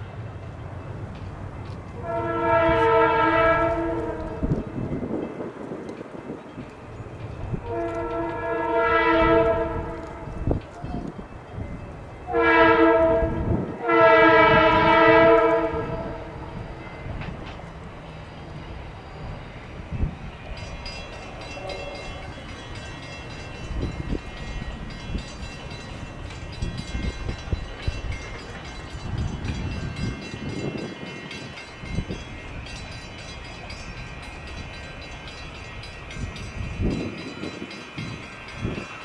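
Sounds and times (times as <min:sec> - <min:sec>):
train rumbling past: 0:00.0 - 0:39.0.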